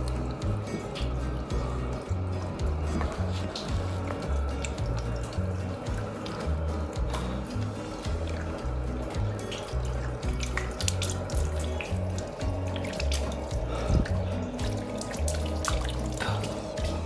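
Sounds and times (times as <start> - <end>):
background music with bass line: 0.0 - 17.0
tap water running into sink: 0.0 - 17.0
water splashing: 0.0 - 17.0.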